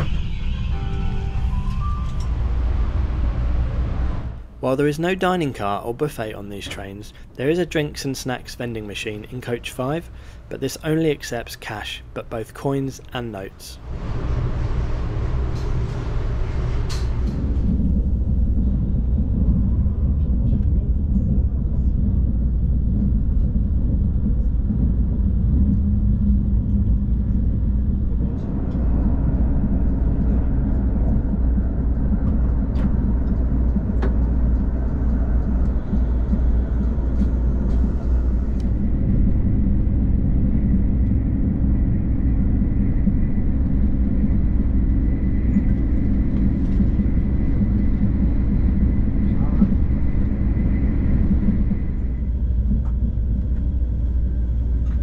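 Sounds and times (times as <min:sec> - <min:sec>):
high-speed train rumbling: 0:00.0 - 0:55.0.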